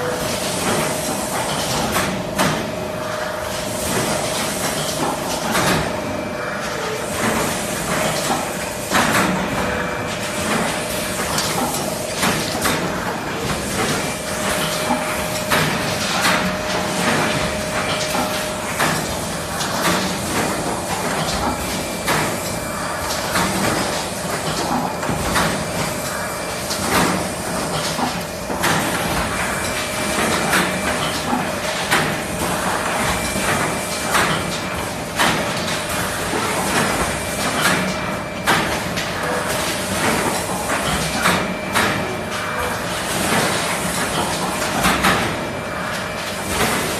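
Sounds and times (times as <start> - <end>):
machine clacking and knocking: 0.0 - 2.8, 3.5 - 46.9
steady machine hum: 0.0 - 46.9.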